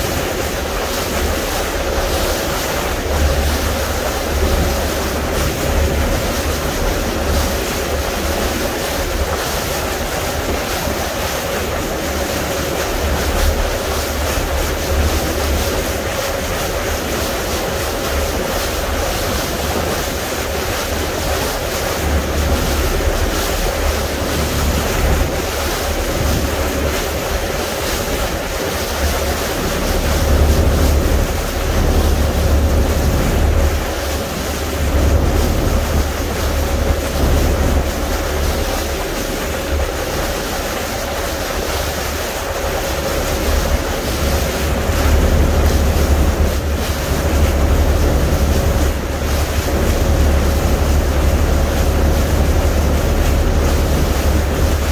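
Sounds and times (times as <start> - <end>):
boat engine hum: 0.0 - 54.9
water washing against boat: 0.0 - 54.9
wind buffeting microphone: 0.0 - 54.9.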